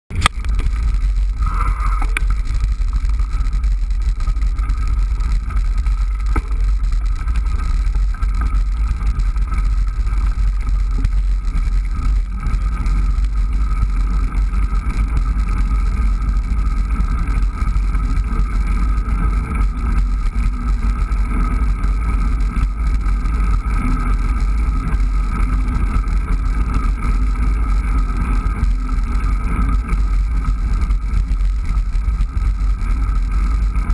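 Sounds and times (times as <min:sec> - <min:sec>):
faint steady whine: 0:00.1 - 0:33.9
wind and road rumble: 0:00.1 - 0:33.9.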